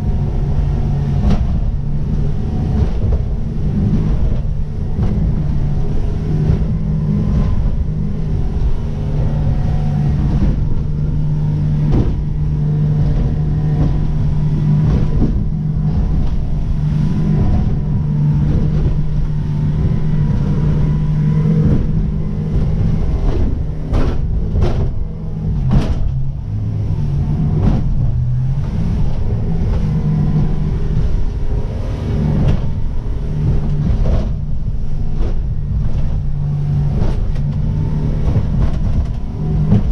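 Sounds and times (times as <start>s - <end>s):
motor boat engine droning: 0.0s - 39.9s
rumbling water: 0.0s - 39.9s.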